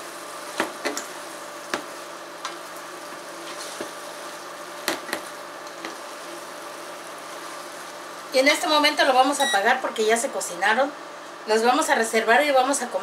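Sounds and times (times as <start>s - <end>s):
mushrooms sizzling in a pot: 0.0s - 13.0s.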